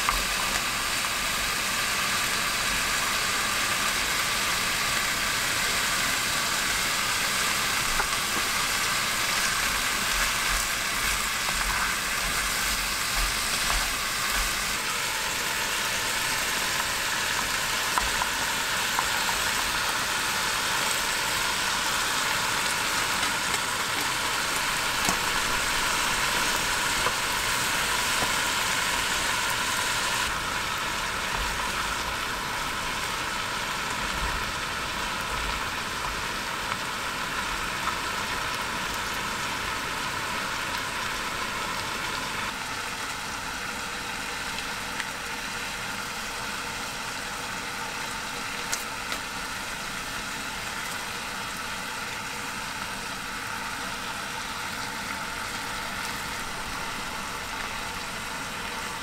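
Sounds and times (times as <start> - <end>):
food sizzling in a tin: 0.0 - 59.0.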